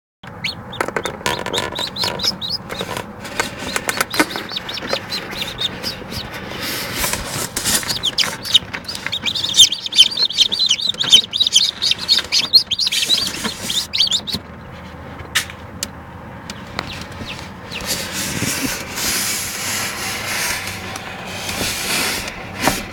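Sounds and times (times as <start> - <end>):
chicks peeping: 0.2 - 22.9
clicks and rustles: 0.3 - 19.4.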